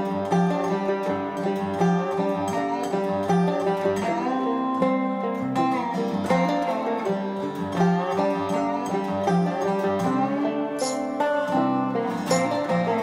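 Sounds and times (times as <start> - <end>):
plucked string instrumental music: 0.0 - 13.0.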